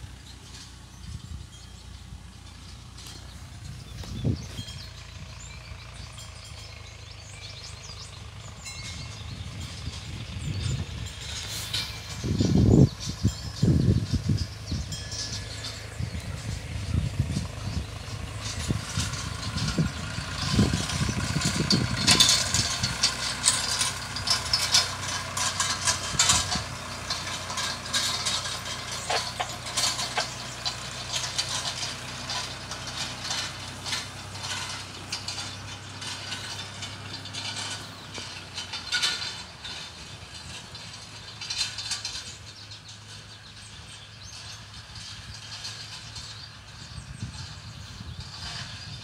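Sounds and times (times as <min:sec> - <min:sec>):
hay tedder clattering and rattling: 0:00.0 - 0:49.0
tractor engine running: 0:00.0 - 0:49.0
low gusty rumbles: 0:01.0 - 0:41.4.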